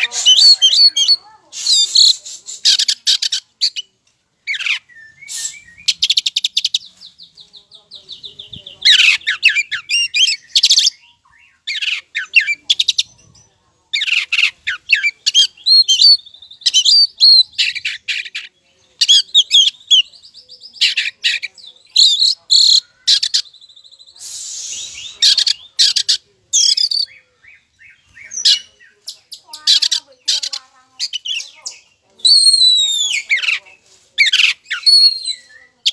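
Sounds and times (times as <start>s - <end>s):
bird whistled song and trills: 0.1s - 7.5s, 8.1s - 35.9s.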